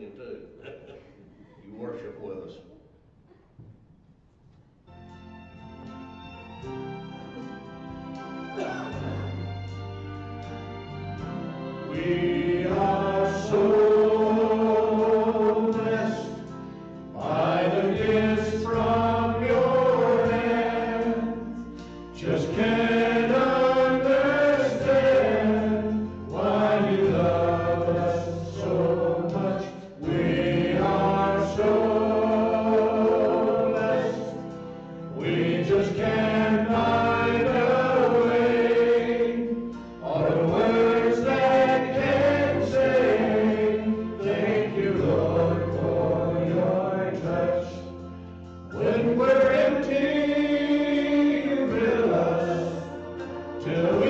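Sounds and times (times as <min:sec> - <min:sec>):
instrumental accompaniment: 0:04.8 - 0:54.0
group singing a hymn: 0:07.3 - 0:54.0.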